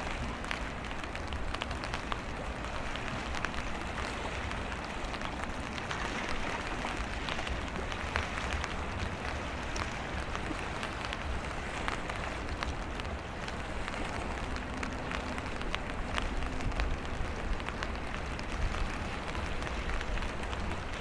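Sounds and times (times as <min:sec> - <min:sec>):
heavy rain falling: 0:00.0 - 0:21.0
wind rumbling on microphone: 0:00.0 - 0:21.0.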